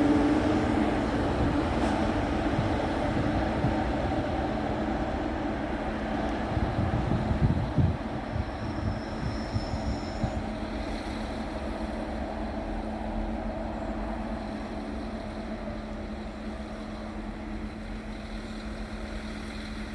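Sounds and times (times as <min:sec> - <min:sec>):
train rumbling: 0:00.0 - 0:19.9.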